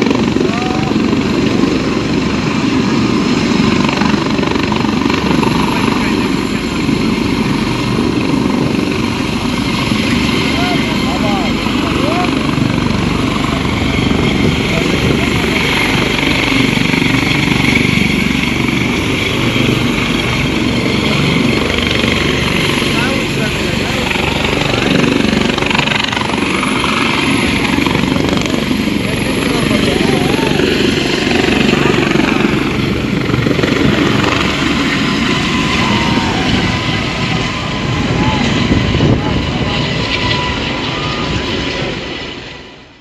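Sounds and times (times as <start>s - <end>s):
helicopter rotor blades beating: 0.0s - 43.0s
turbine engine noise: 0.0s - 43.0s.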